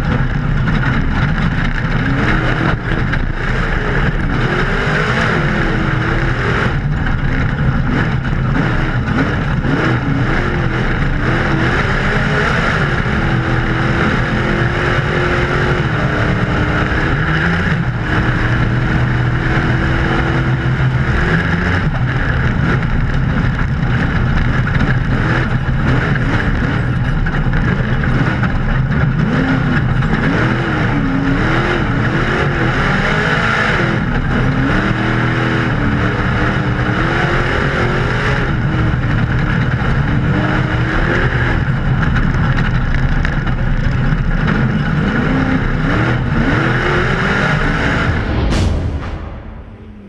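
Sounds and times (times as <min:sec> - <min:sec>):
race car engine revving: 0:00.0 - 0:50.0
rush of driving over dirt: 0:00.0 - 0:50.0.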